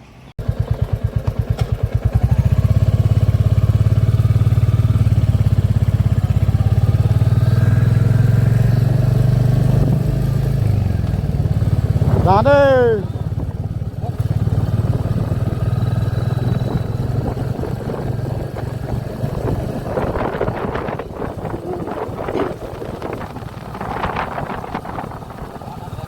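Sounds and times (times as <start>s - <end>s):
motorcycle engine idling: 0.4s - 26.0s.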